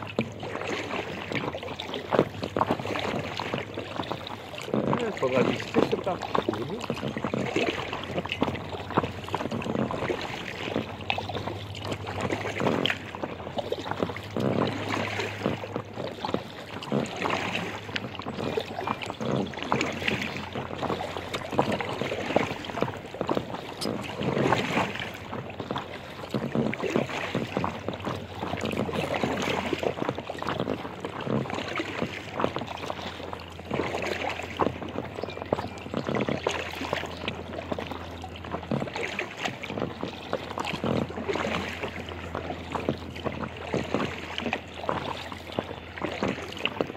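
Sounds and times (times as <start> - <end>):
paddle strokes splashing: 0.0 - 46.9
water lapping against hull: 0.0 - 46.9.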